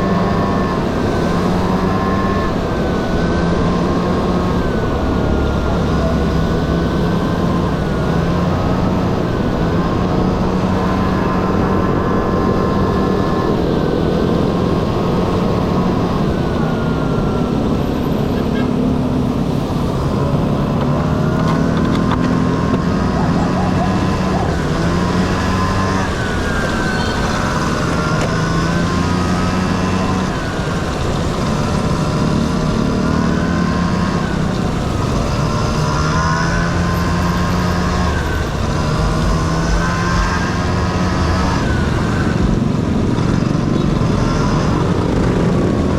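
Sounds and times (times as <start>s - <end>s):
scooter engine running: 0.0s - 45.9s
steady rushing noise: 0.0s - 45.9s.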